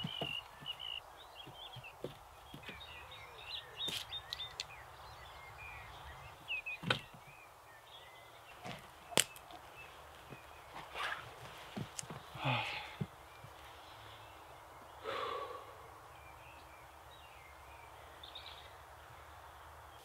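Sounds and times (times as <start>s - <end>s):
birds singing: 0.0s - 20.0s.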